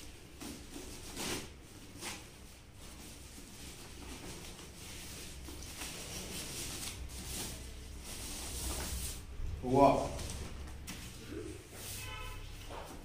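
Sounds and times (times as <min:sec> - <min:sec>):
plastic bag rustling: 0:00.0 - 0:12.1.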